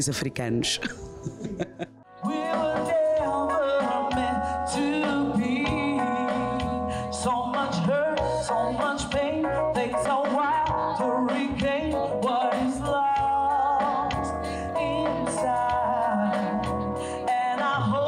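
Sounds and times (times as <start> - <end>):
instrumental backing with bass: 0.0 - 18.0
woman singing into microphone: 2.2 - 18.0.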